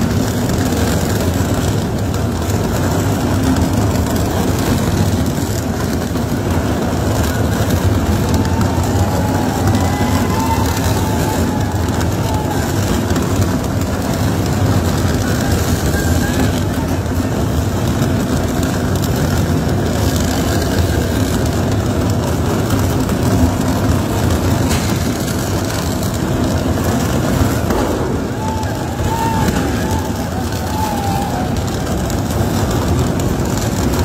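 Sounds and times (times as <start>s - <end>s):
tunnel boring machine grinding rock: 0.0s - 34.0s.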